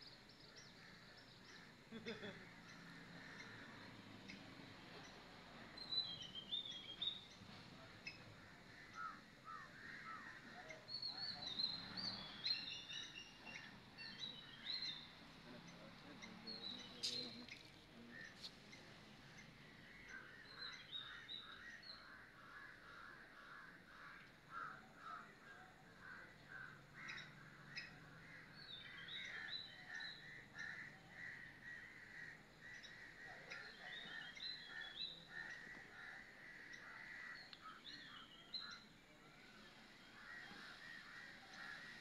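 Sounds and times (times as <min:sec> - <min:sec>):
wild birds calling: 0:00.0 - 0:42.0.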